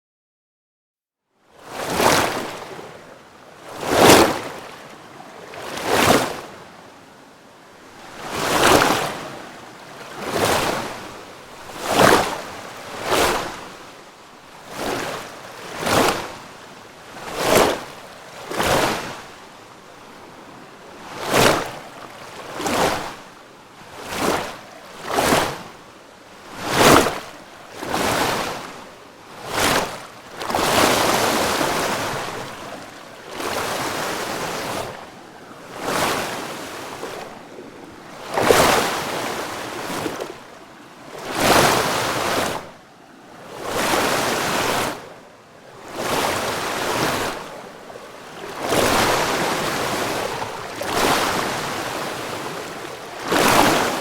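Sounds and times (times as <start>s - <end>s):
rushing water splashes: 1.7s - 3.0s, 3.6s - 6.7s, 8.0s - 25.8s, 26.4s - 42.8s, 43.4s - 45.2s, 45.8s - 54.0s.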